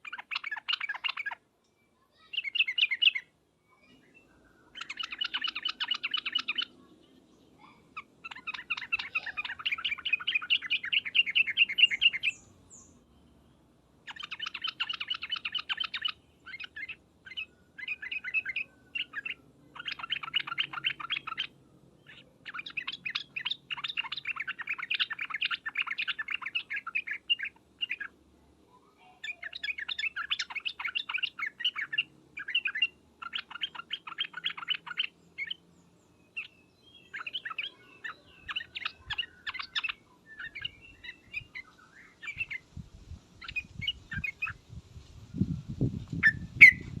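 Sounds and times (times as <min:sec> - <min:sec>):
birds chattering calls: 0:00.0 - 0:01.4, 0:02.1 - 0:13.3, 0:14.0 - 0:28.2, 0:29.1 - 0:44.7, 0:45.4 - 0:47.0.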